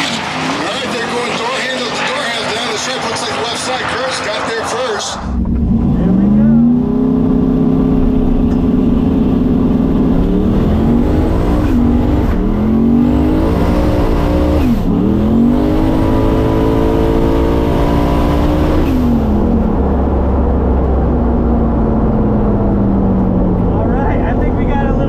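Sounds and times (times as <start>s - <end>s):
drag car engine at full throttle: 0.0s - 25.0s.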